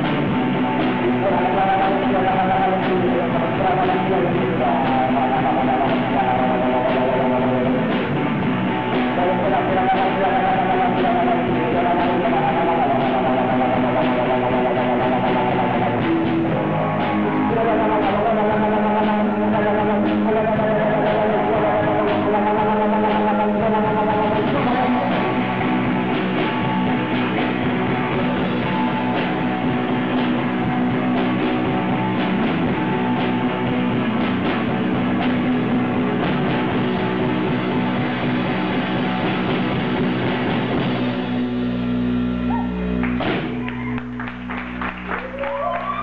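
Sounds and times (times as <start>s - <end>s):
drum kit: 0.0s - 46.0s
electric guitar: 0.0s - 46.0s.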